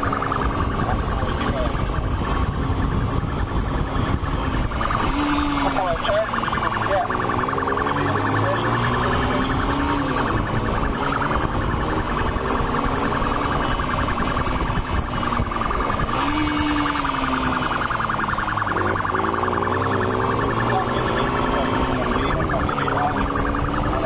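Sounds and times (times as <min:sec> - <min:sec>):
police siren: 0:00.0 - 0:24.0
vehicle engine noise: 0:00.0 - 0:24.0.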